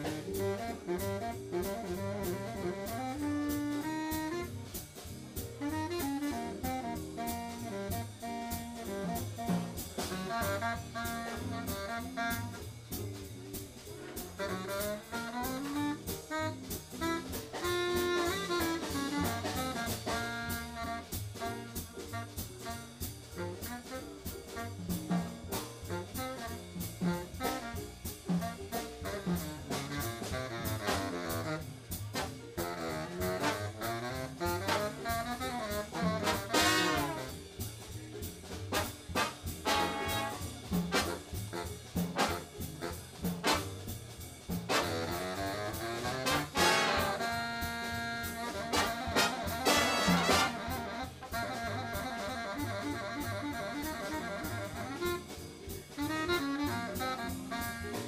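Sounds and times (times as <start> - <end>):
jazz big band playing: 0.0 - 58.0.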